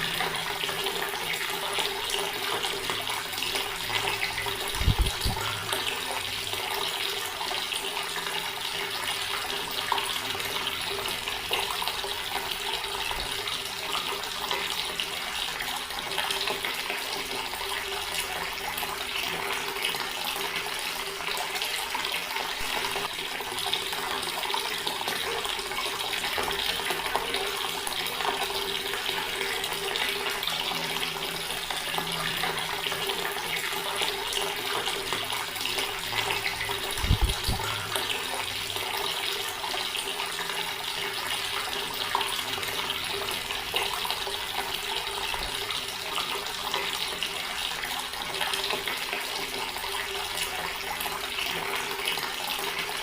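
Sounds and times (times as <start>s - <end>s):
tap water splashing into basin: 0.0s - 53.0s.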